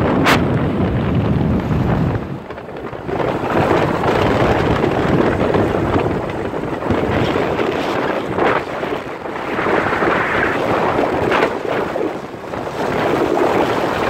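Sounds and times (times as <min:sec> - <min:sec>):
motorbike road noise: 0:00.0 - 0:14.0
wind buffeting microphone: 0:00.0 - 0:14.0.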